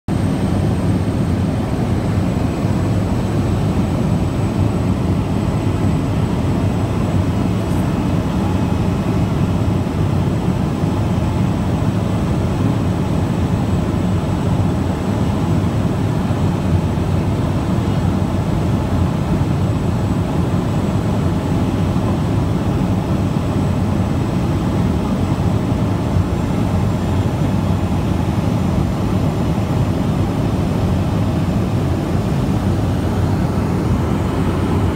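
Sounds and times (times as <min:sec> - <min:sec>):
plane engine and propeller droning: 0:00.1 - 0:34.9.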